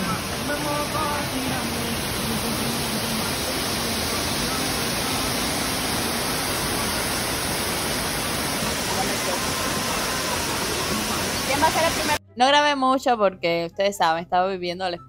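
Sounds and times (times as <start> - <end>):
waterfall roaring: 0.0 - 12.2.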